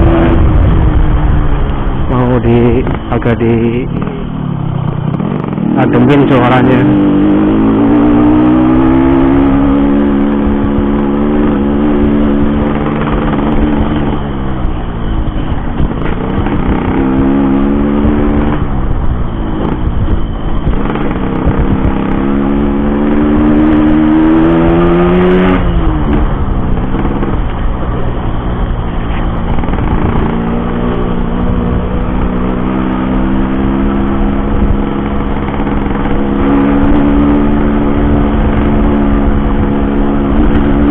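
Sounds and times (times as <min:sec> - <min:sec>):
loud motorcycle exhaust revving: 0:00.0 - 0:40.9.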